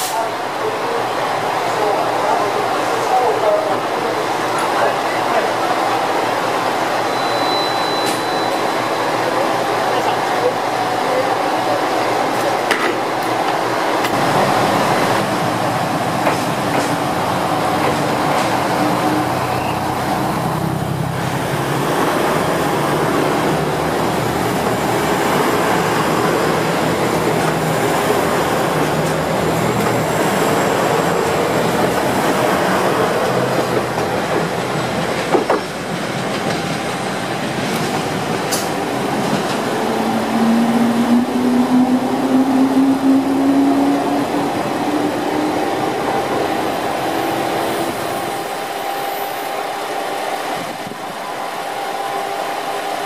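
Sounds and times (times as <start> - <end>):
diesel train engines: 0.0 - 53.0.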